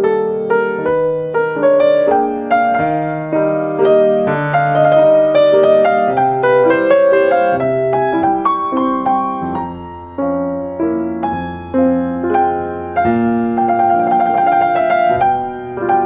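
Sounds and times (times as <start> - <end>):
solo piano: 0.0 - 16.0.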